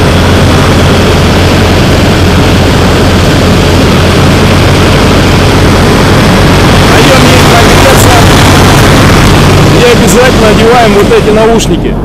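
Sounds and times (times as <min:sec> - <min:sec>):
hovercraft engine idling: 0:00.0 - 0:12.0.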